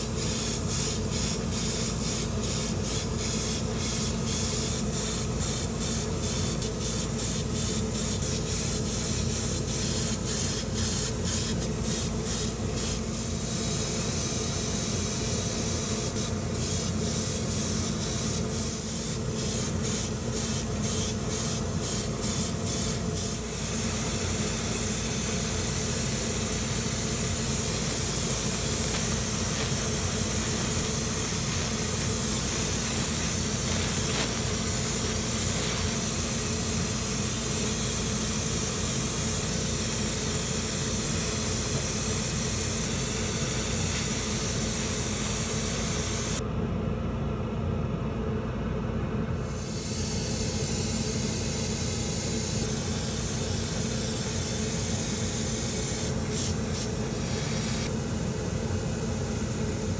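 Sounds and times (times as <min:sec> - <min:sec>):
airbrush hissing: 0:00.0 - 0:46.4, 0:49.4 - 0:59.9
steady low hum: 0:00.0 - 0:59.9.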